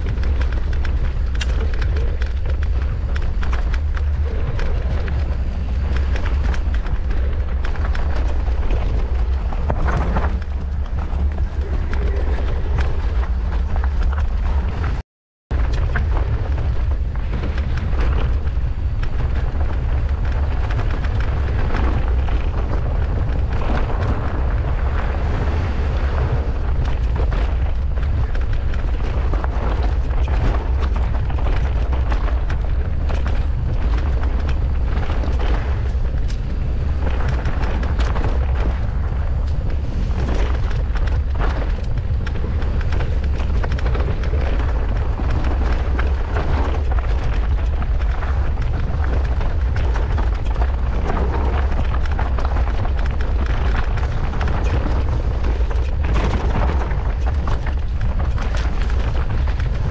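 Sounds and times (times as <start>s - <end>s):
bike knocks and rattles: 0.0s - 14.8s, 15.5s - 59.9s
tyres rumbling on rough ground: 0.0s - 59.9s
wind buffeting microphone: 0.0s - 59.9s.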